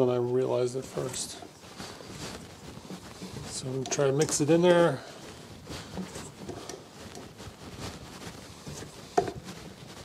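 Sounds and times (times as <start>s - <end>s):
hand squishing dough: 0.0s - 10.0s.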